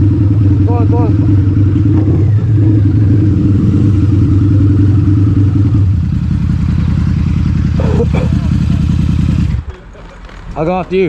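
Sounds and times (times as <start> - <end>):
motorcycle engine running at low revs: 0.0 - 9.7.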